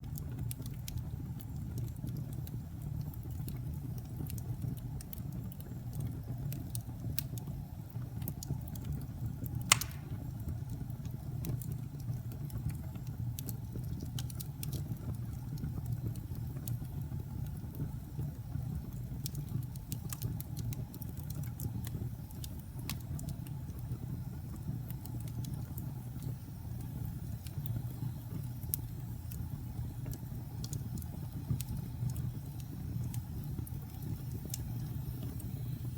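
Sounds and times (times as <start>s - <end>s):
fire crackles and pops: 0.0s - 35.9s
wood fire rumbling: 0.0s - 35.9s.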